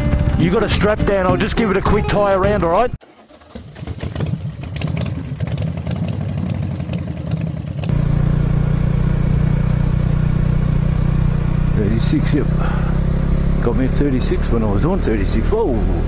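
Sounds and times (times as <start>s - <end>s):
motorcycle engine running: 0.0s - 1.8s, 3.4s - 16.0s.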